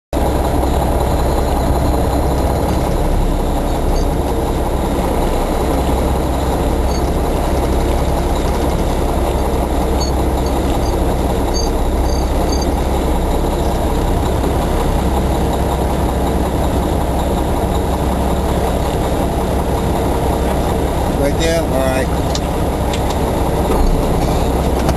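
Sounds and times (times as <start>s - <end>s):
truck engine rumbling: 0.1s - 24.9s.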